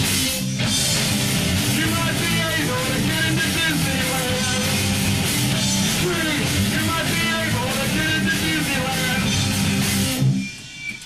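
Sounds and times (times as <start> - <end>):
drums and cymbals: 0.0 - 11.0
electric guitar: 0.0 - 11.0.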